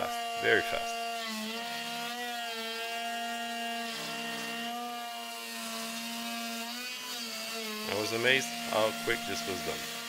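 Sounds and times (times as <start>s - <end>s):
router spindle whine: 0.0s - 10.0s.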